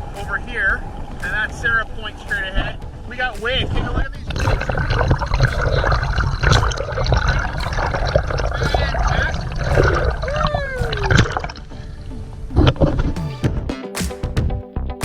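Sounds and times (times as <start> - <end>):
waves slapping and splashing: 0.0 - 13.2.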